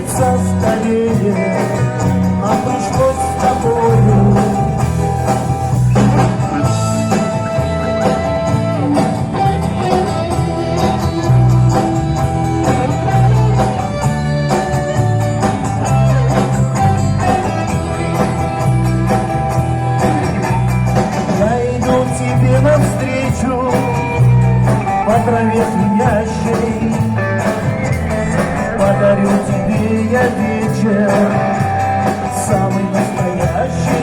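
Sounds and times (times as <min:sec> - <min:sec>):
pop band instrumental: 0:00.0 - 0:34.0.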